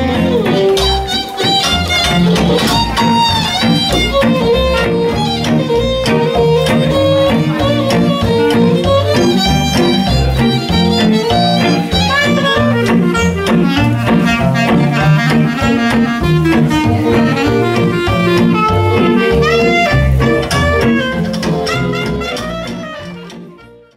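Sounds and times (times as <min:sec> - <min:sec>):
acoustic guitar: 0:00.0 - 0:23.9
clarinet: 0:00.0 - 0:23.9
fiddle: 0:00.0 - 0:23.9
upright bass: 0:00.0 - 0:23.9.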